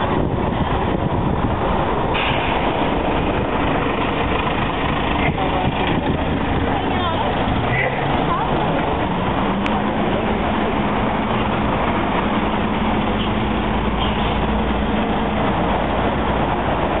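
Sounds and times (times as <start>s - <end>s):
buses and cars passing: 0.0s - 17.0s
steady engine hum: 0.0s - 17.0s.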